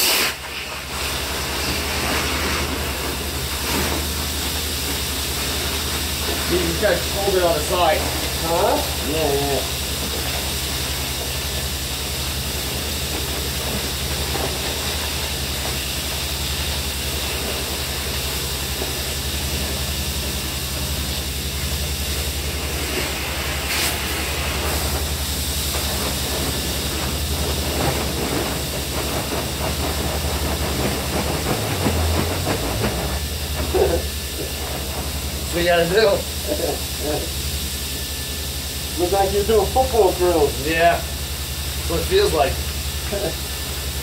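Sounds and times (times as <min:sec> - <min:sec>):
air equipment hissing: 0:00.0 - 0:44.0.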